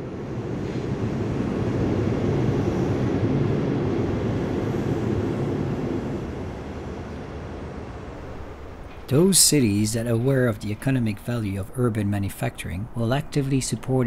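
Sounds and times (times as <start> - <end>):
train crossing viaduct: 0.0 - 14.0.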